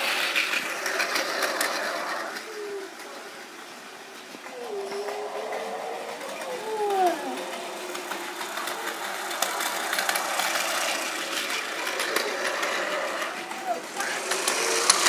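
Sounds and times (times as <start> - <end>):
toy train motor whirring: 0.0 - 3.8, 4.5 - 15.0
gliding tones: 0.0 - 15.0.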